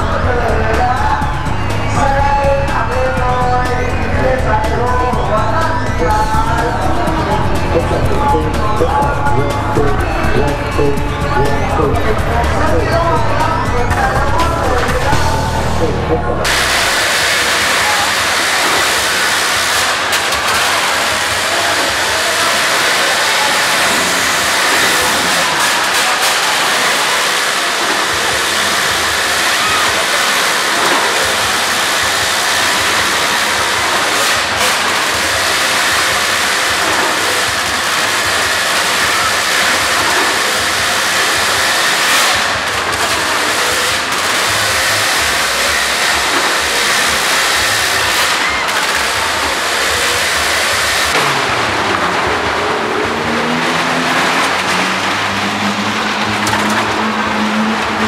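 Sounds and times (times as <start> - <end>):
echoing car engine running: 0.0 - 58.0.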